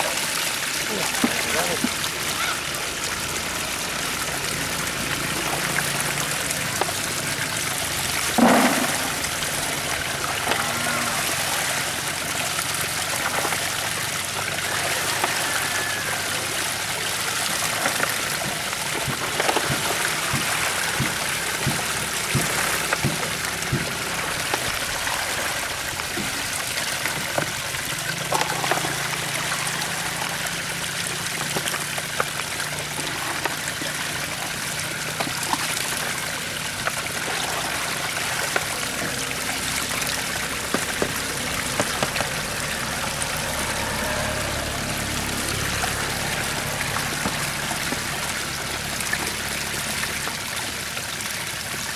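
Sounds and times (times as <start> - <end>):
water pouring into basket: 0.0 - 51.9
water splashing: 0.0 - 51.9.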